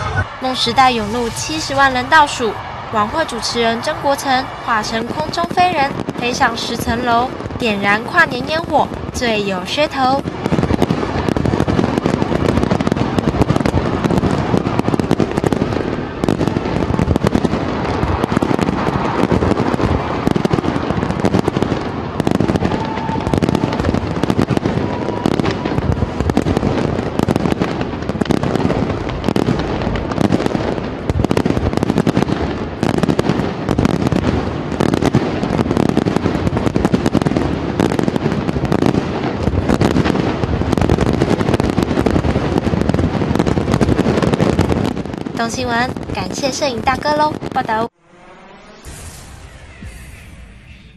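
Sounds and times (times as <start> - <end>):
fireworks bursting and crackling: 0.0 - 50.8.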